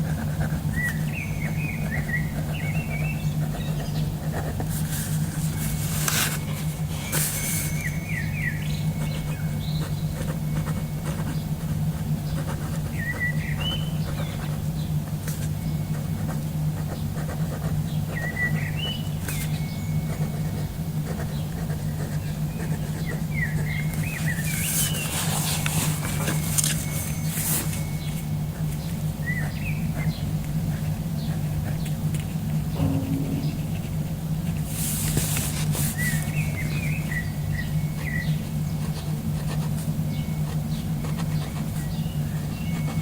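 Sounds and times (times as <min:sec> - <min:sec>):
birds chirping: 0:00.0 - 0:43.0
steady low hum: 0:00.0 - 0:43.0.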